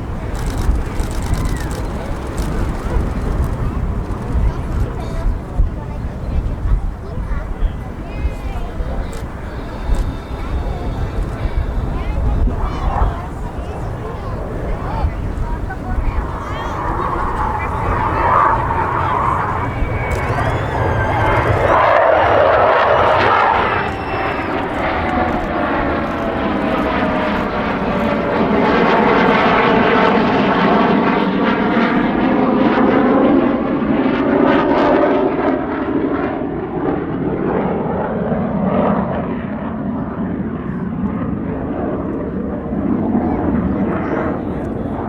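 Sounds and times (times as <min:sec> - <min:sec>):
fighter jet roar: 0:00.0 - 0:45.0.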